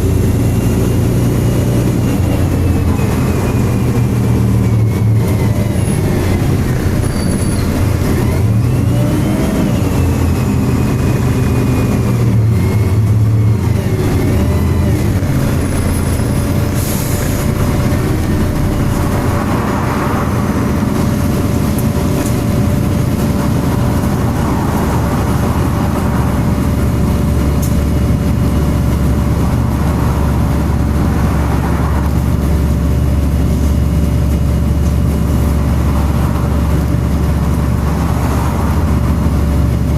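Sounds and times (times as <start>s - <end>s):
bus diesel engine hum: 0.0s - 39.9s
engine cooling fan whirring: 0.0s - 39.9s
rising and falling whines: 0.0s - 39.9s.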